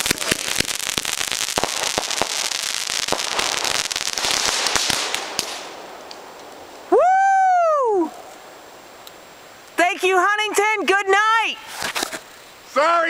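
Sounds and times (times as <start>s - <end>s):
fireworks crackling: 0.0s - 13.0s
fireworks hiss: 0.0s - 13.0s.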